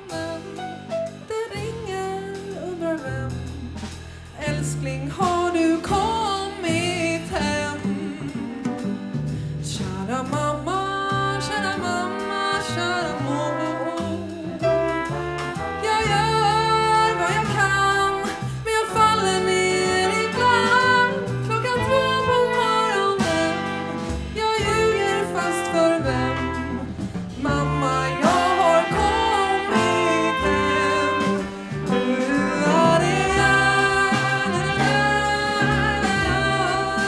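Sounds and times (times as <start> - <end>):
woman singing: 0.0 - 8.7, 9.6 - 15.0, 15.6 - 37.0
double bass: 0.0 - 37.0
drums: 0.0 - 37.0
piano: 0.0 - 37.0
trombone: 0.0 - 37.0
trumpet: 0.0 - 37.0.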